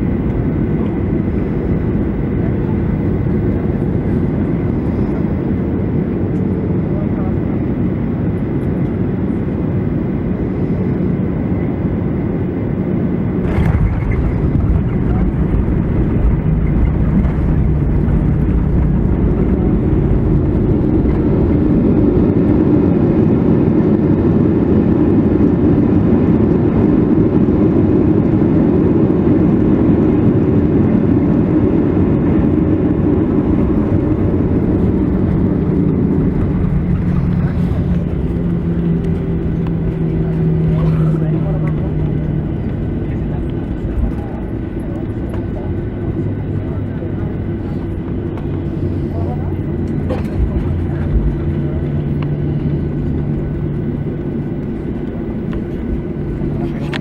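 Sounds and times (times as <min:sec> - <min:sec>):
aircraft cabin engine rumble: 0:00.0 - 0:57.0
steady engine hum: 0:00.0 - 0:57.0.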